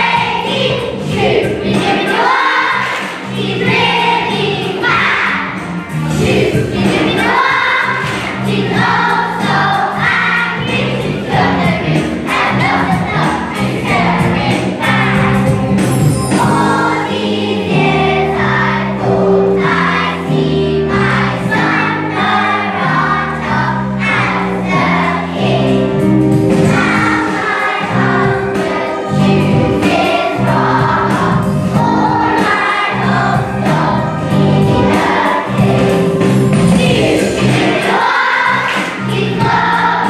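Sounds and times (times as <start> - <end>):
choir singing with accompaniment: 0.0 - 40.0.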